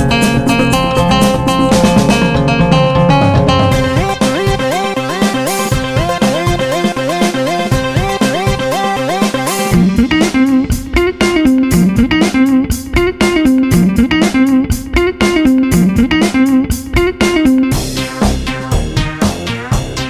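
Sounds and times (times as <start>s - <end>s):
upbeat guitar music with beat: 0.0s - 20.0s.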